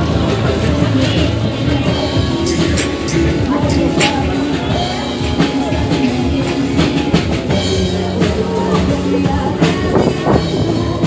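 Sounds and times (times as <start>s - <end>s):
loud music with drum beat: 0.0s - 11.0s.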